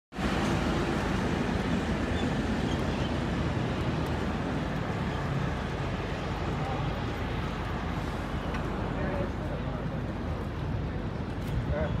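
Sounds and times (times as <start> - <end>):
low traffic hum: 0.1 - 12.0.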